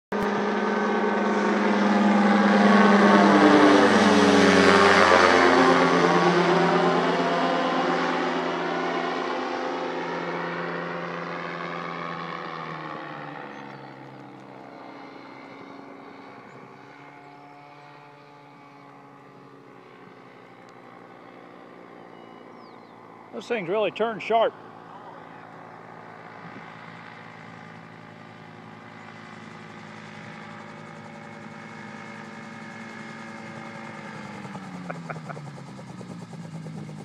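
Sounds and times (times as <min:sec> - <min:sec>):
autogyro engine and propeller droning: 0:00.1 - 0:37.0.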